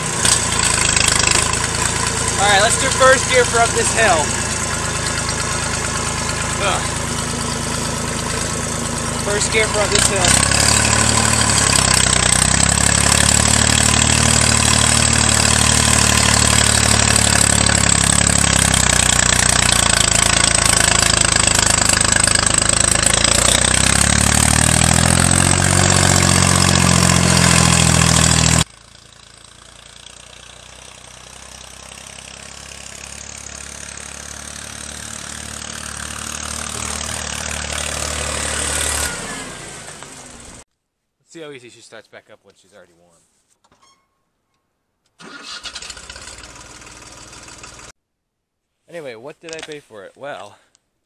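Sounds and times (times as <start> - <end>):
diesel tractor engine: 0.0 - 40.6, 45.2 - 47.9.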